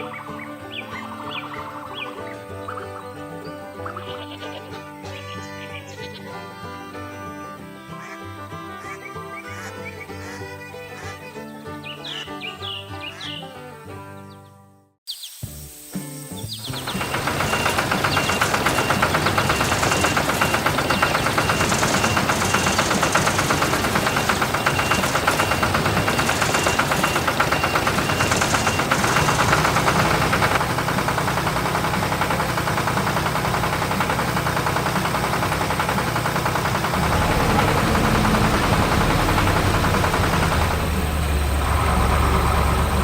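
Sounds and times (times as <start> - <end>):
motor engine chugging: 0.0 - 11.4, 16.7 - 43.0.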